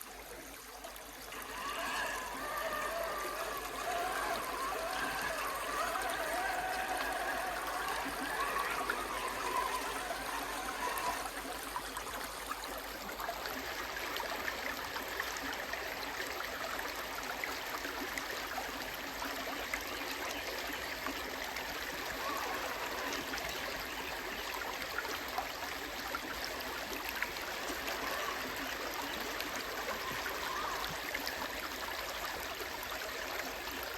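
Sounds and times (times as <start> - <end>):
creek water flowing: 0.0 - 33.9.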